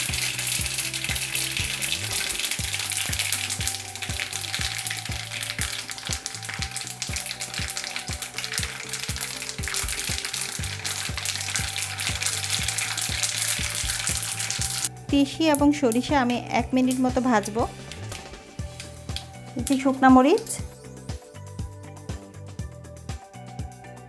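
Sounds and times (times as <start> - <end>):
seeds sizzling in hot oil: 0.0 - 21.3.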